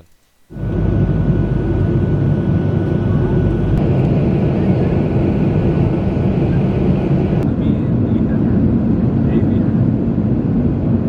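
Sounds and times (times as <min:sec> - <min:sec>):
jet engines low rumble: 0:00.4 - 0:11.0.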